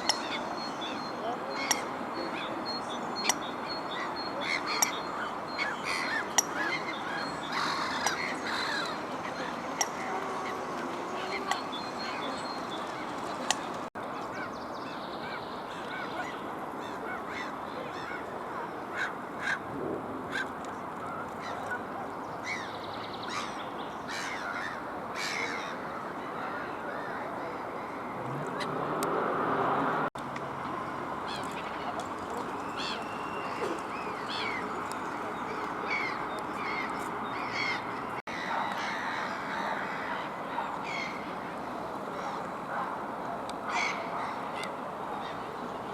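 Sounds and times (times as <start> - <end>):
gulls and coots calling: 0.0 - 28.9, 30.8 - 45.9.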